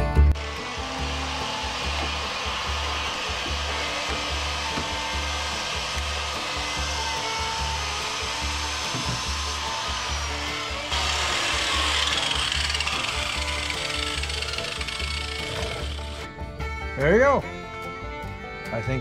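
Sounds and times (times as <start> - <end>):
angle grinder cutting sheet steel: 0.4 - 16.3.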